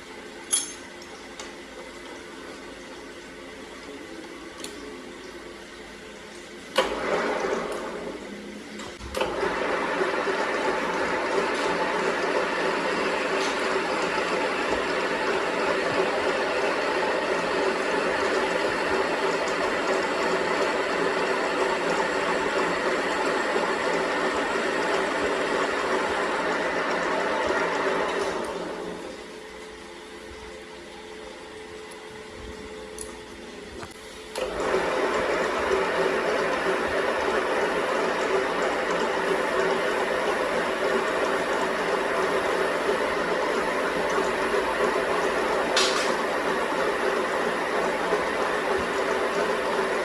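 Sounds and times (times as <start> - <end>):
workshop machinery humming: 0.0 - 50.0.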